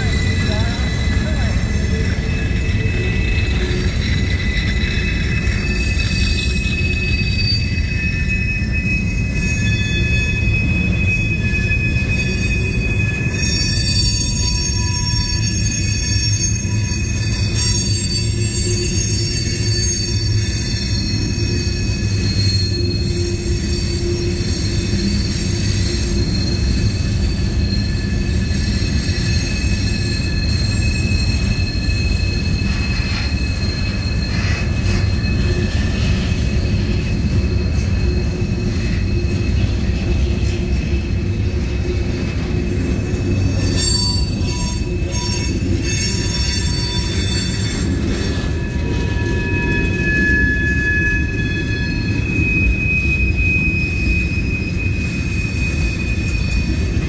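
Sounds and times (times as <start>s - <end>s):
steel wheels rumbling on rail: 0.0s - 57.0s
train cars clattering: 0.0s - 57.0s
wheel squeal: 0.0s - 57.0s.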